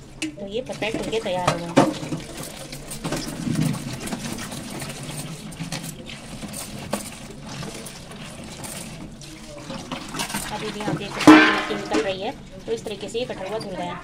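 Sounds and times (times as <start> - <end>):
tap water running into colander: 0.0 - 14.0
hand stirring mushrooms: 0.3 - 14.0.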